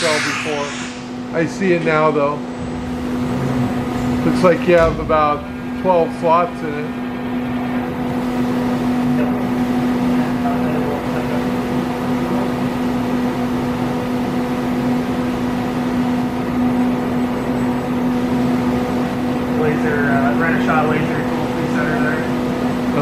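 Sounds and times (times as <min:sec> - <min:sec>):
machine hum with low tone: 0:00.0 - 0:23.0.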